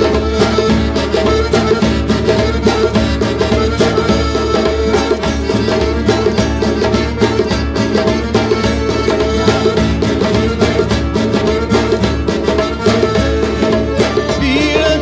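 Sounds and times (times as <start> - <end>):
acoustic guitar: 0.0 - 15.0
djembe drum beat: 0.0 - 15.0
folk dance tune on accordion: 0.0 - 15.0.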